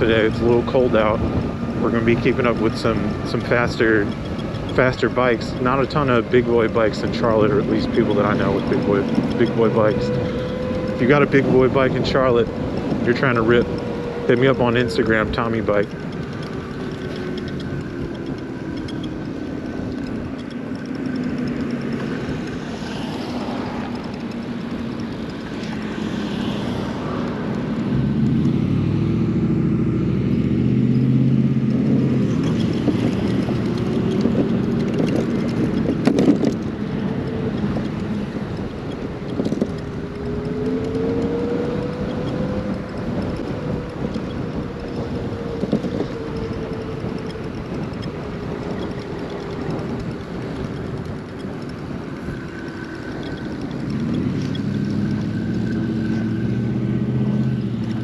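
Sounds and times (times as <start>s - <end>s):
motorcycle engine tone: 0.0s - 58.0s
wind and road noise: 0.0s - 58.0s.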